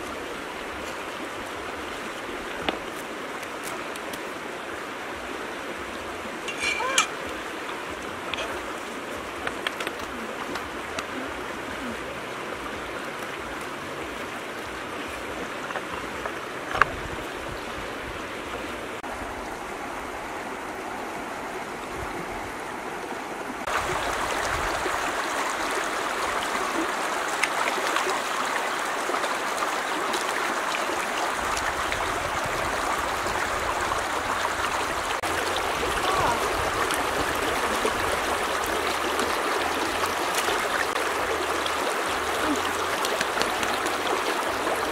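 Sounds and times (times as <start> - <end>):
river flowing over rocks: 0.0 - 44.9.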